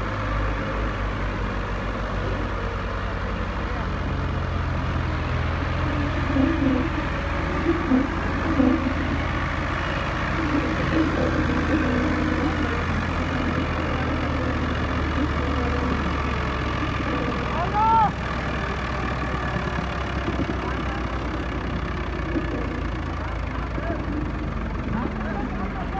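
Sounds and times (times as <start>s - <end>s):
tractor diesel engine idling: 0.0s - 25.9s.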